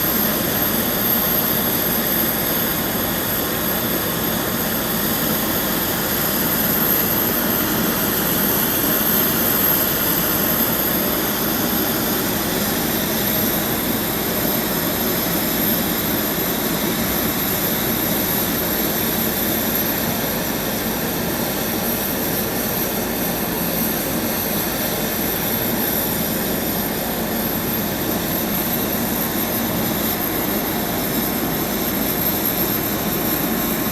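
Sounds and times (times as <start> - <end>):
airliner engine running: 0.0 - 33.9.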